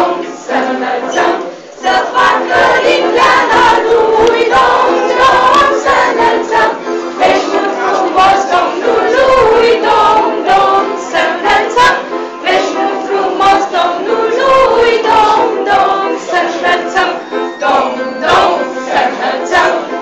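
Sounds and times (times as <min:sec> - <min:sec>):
women and children singing carol: 0:00.0 - 0:20.0.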